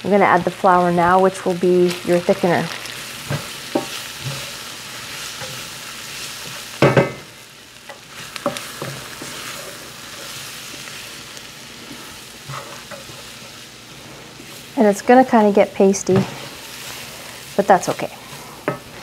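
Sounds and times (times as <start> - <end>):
vegetables sizzling in butter: 0.0 - 19.0
wooden spoon stirring and scraping: 0.6 - 6.8, 7.8 - 14.8, 16.1 - 19.0.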